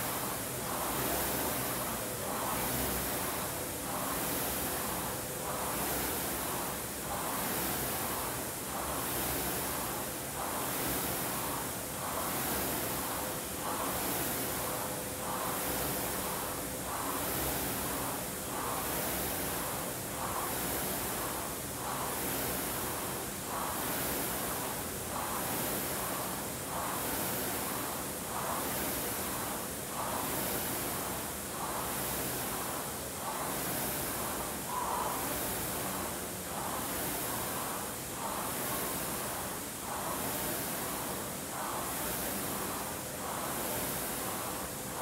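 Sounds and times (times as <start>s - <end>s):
rowing machine flywheel whooshing: 0.0s - 45.0s.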